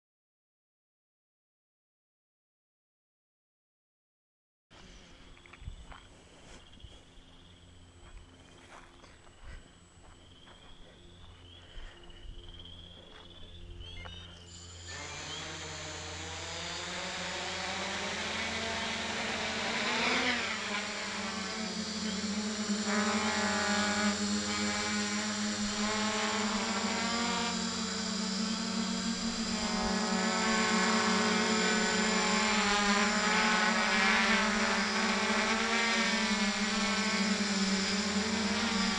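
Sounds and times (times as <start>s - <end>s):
drone propellers buzzing whine: 4.8s - 38.9s.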